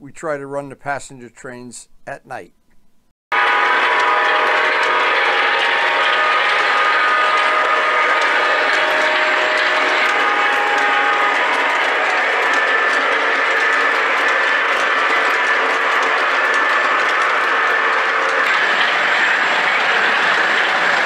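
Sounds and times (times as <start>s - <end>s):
model train humming on track: 3.4s - 21.0s
wheels clicking over rail joints: 3.4s - 21.0s.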